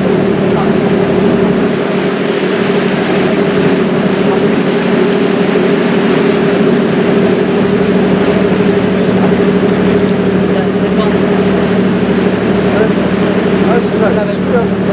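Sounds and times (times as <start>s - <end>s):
ship engines droning: 0.0s - 14.9s
wind and water hiss: 0.0s - 14.9s.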